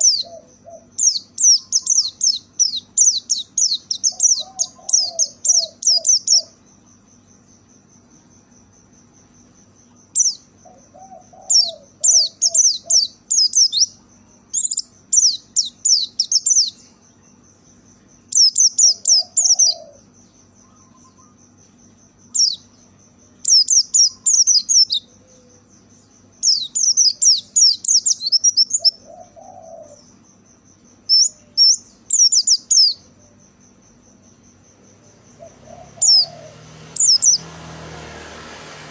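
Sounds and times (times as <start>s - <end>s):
bird twittering song: 0.0s - 8.4s, 9.2s - 38.0s.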